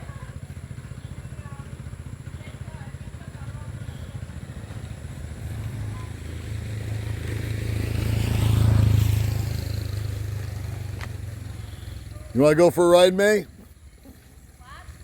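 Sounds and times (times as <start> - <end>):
scooter engine passing by: 0.0 - 15.0.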